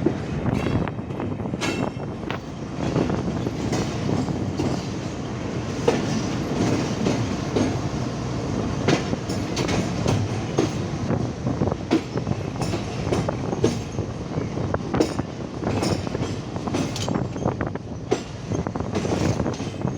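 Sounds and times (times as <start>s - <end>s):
train wheels clattering over rails: 0.0s - 19.9s.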